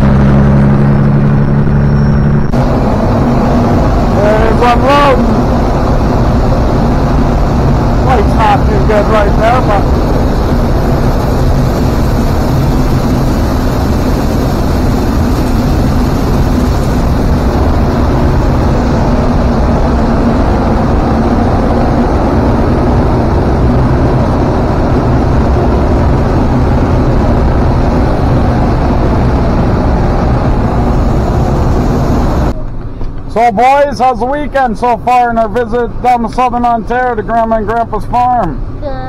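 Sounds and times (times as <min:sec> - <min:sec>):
loud machinery drone: 0:00.0 - 0:32.6.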